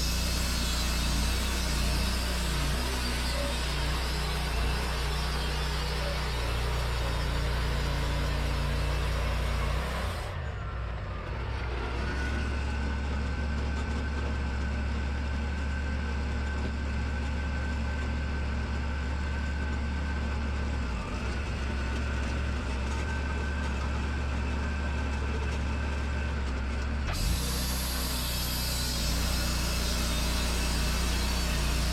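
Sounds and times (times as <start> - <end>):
sawmill engine humming: 0.0 - 31.9.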